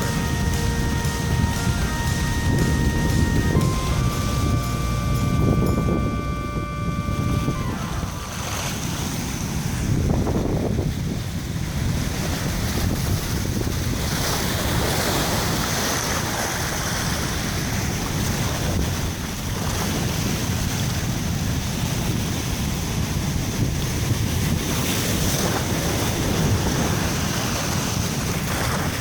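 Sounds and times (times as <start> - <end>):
waves breaking: 0.0 - 29.0
wind buffeting microphone: 0.0 - 29.0.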